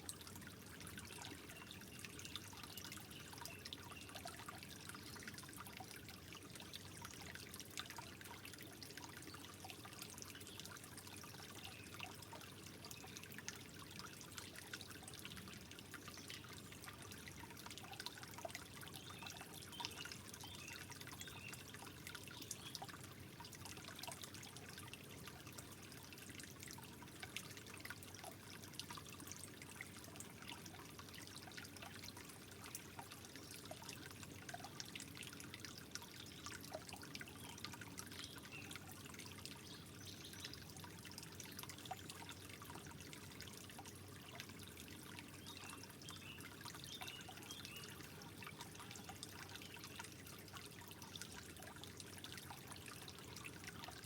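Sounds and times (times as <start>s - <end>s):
small drips and splashes: 0.0s - 54.0s
water trickling: 0.0s - 54.0s.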